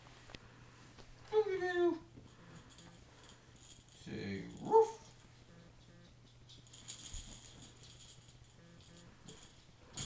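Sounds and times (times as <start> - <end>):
faint steady hum: 0.0 - 10.0
soft toy rattling: 1.3 - 10.0.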